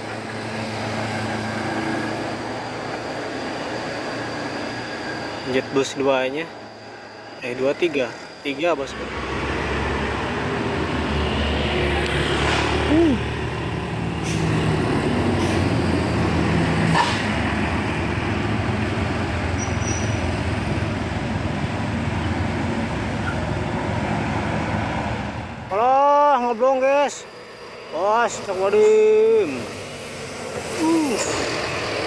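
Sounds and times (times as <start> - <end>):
bus diesel engine rumble: 0.0 - 32.0.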